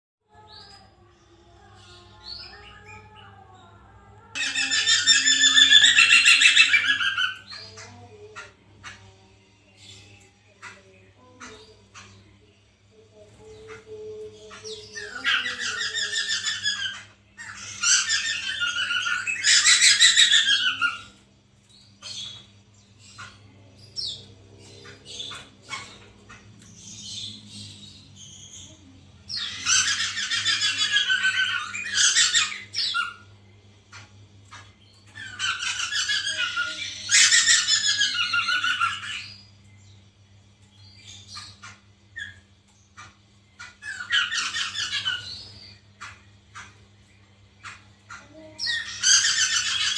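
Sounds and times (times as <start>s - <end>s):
bird singing trilling song: 0.2s - 49.9s
bird calls: 0.3s - 49.9s.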